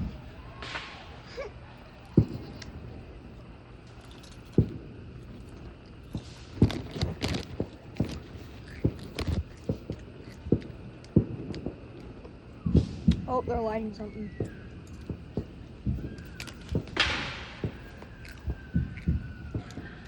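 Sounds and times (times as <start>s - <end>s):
fireworks thumps and cracks: 0.0s - 20.0s.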